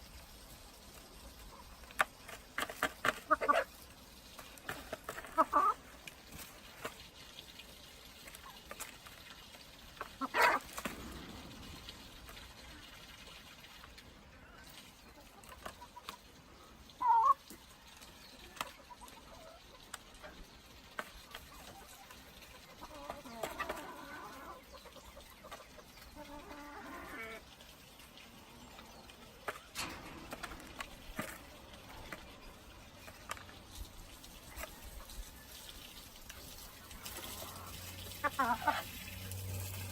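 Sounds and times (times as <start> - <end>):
chickens clucking: 0.5 - 39.9.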